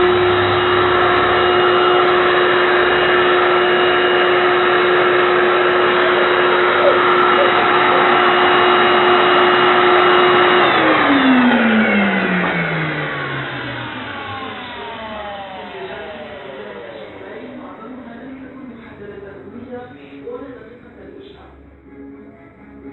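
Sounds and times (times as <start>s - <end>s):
vacuum cleaner motor whining: 0.0s - 22.9s.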